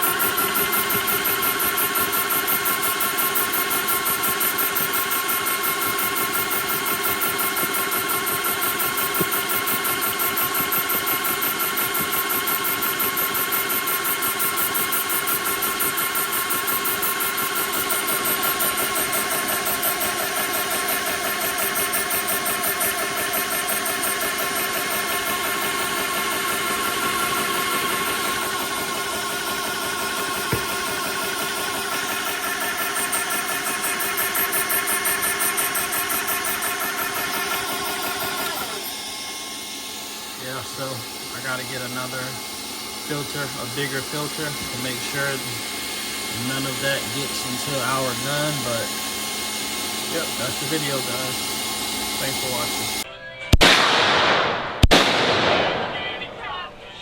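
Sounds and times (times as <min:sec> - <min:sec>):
air compressor pump pulsing: 0:00.0 - 0:53.1.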